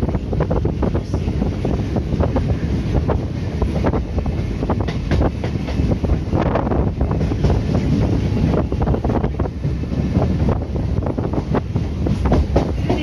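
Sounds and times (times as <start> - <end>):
train rumbling on track: 0.0 - 13.0
wind buffeting microphone: 0.0 - 13.0.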